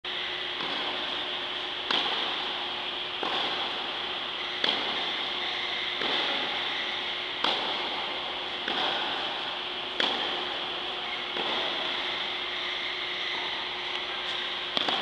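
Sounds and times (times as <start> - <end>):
tennis racket hitting ball: 0.5 - 13.5, 14.1 - 15.0.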